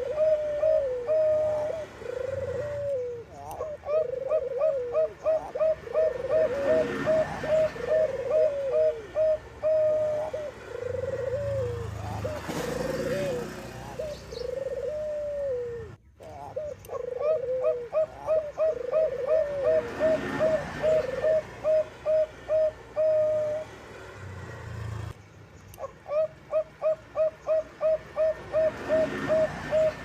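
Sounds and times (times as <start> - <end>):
dove cooing: 0.0 - 23.8, 25.8 - 30.0.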